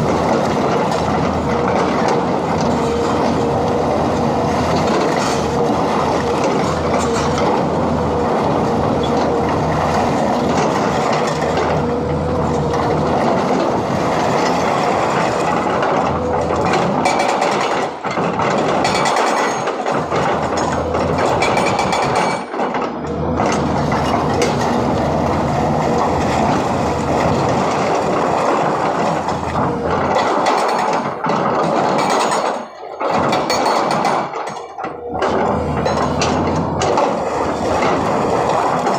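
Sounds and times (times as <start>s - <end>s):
hydraulic breaker hammering rock: 0.0s - 38.9s.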